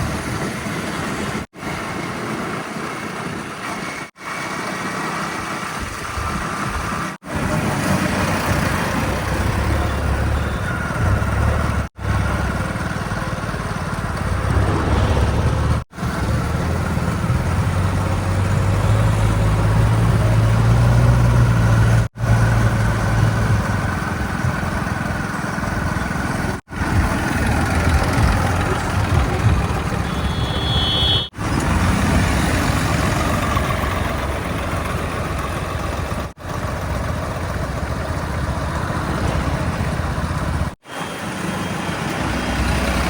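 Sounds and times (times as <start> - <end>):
heavy machinery diesel engine: 0.0 - 43.0.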